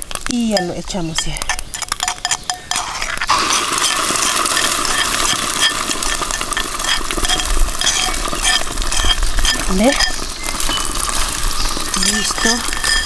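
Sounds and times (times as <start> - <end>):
egg mixture sizzling in oil: 0.0 - 13.0.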